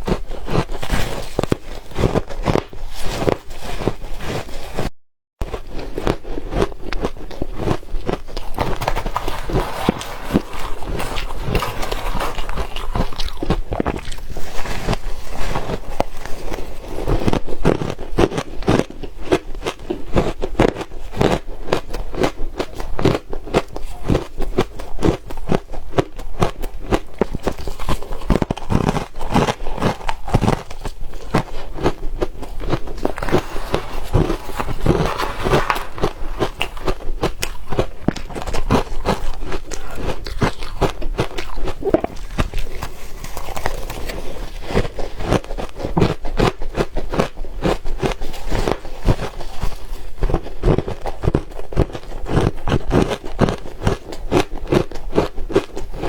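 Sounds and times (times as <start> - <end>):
person chewing crunchy ice: 0.0 - 56.0.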